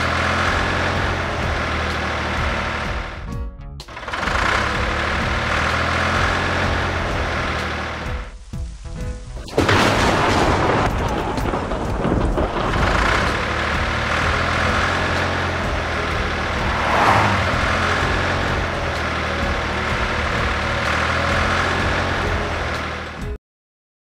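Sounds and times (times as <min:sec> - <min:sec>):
heavy vehicle engine drone: 0:00.0 - 0:23.4.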